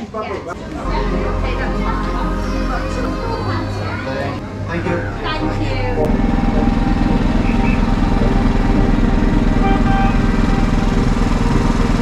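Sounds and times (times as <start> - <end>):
small locomotive engine running: 0.9 - 12.0.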